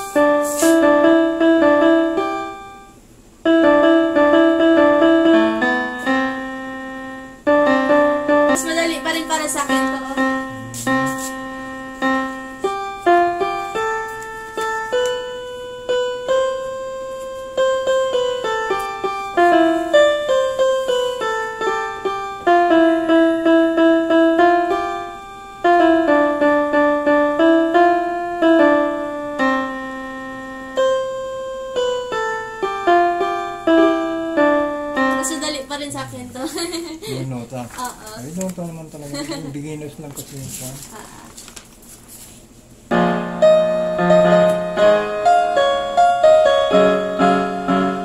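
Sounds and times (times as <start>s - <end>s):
electronic keyboard piano melody: 0.0s - 38.1s, 42.8s - 48.0s.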